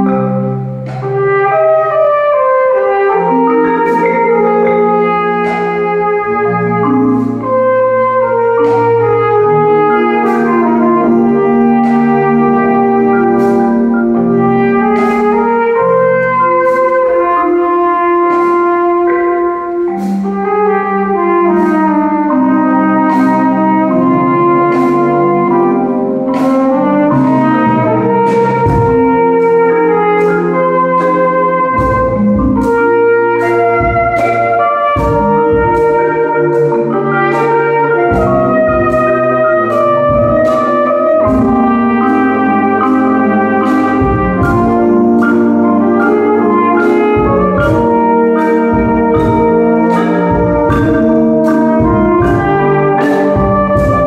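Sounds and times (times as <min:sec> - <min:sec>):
flugelhorn ballad melody: 0:00.0 - 0:54.0
jazz band horns: 0:00.0 - 0:54.0
light steady drum beat: 0:00.0 - 0:54.0.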